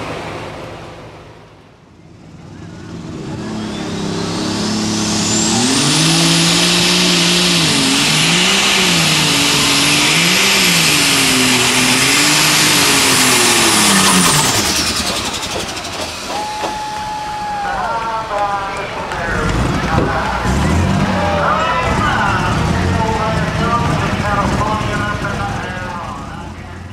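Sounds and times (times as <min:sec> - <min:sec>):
high turbo whine: 0:00.0 - 0:26.9
tractor engine running flat out: 0:00.0 - 0:26.9.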